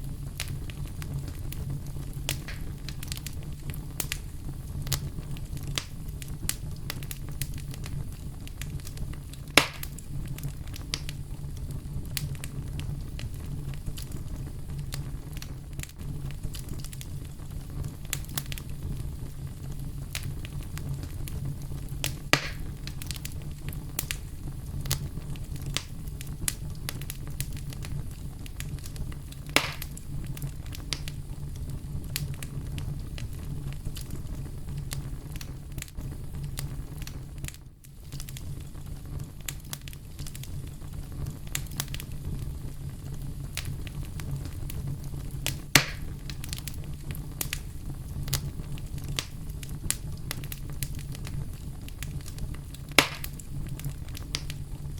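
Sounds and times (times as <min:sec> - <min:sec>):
campfire crackling: 0:00.0 - 0:54.9
loud fire pops: 0:00.0 - 0:54.9.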